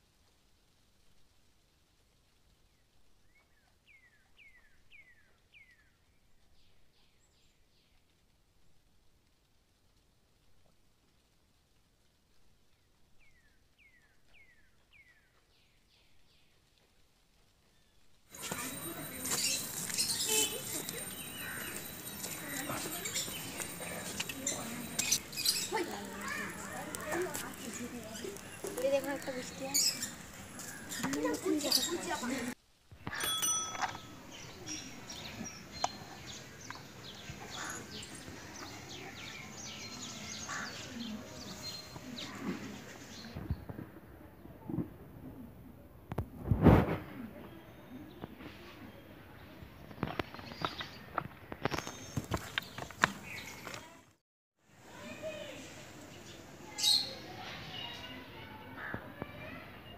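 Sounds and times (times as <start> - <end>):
faint outdoor hiss: 0.0 - 59.9
small birds chirping: 2.6 - 8.3, 12.6 - 16.8, 17.6 - 44.5, 47.4 - 54.1, 54.9 - 59.9.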